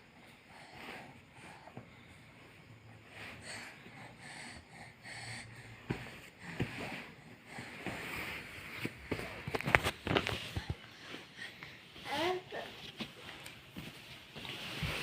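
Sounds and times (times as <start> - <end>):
noisy breathing: 0.0 - 12.4.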